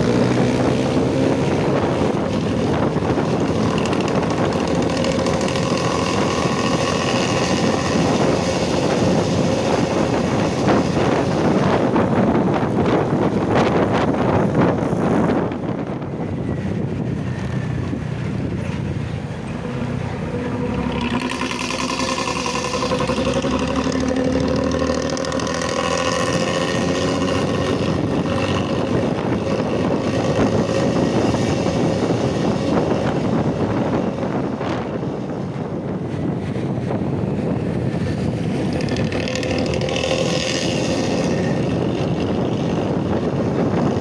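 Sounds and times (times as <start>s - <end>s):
bus exhaust drone: 0.0s - 44.0s
loud rushing noise: 0.0s - 44.0s.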